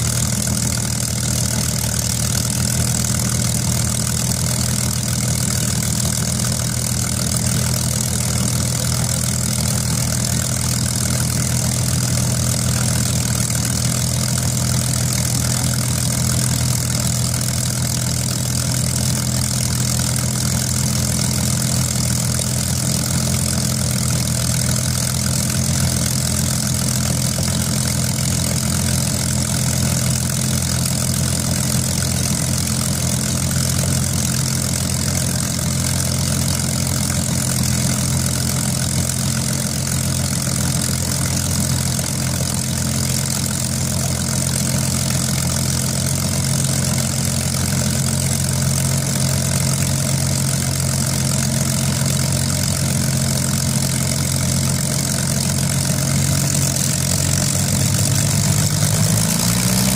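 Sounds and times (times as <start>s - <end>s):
aircraft piston engine idling: 0.0s - 59.9s.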